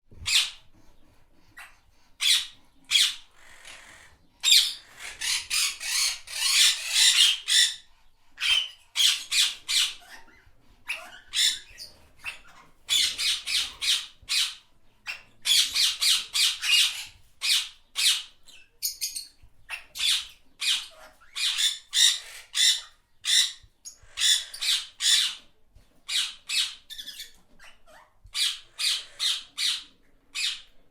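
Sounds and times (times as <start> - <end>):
parrots squawking: 1.6 - 25.4, 26.1 - 30.8.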